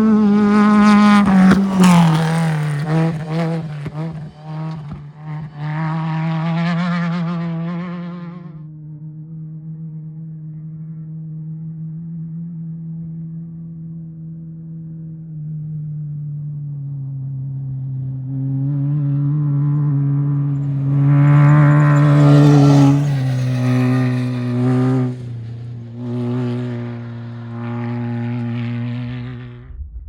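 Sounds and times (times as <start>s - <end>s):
off-road vehicle engine revving: 0.0s - 13.5s, 17.1s - 30.0s.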